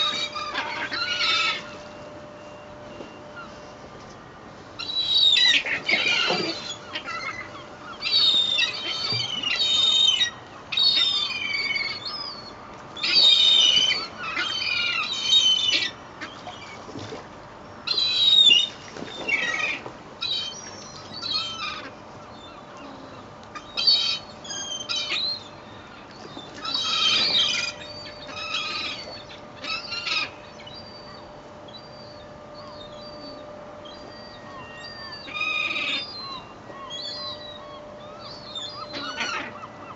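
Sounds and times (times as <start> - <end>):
gulls squawking: 0.0 - 2.4, 4.8 - 16.8, 17.9 - 39.9.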